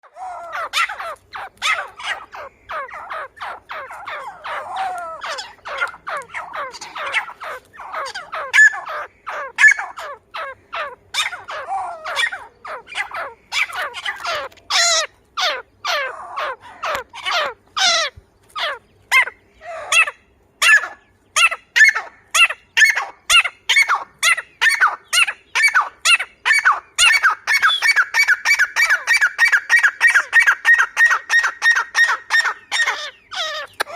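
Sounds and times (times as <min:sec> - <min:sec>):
bird calling harsh repeated notes: 0:00.0 - 0:33.9.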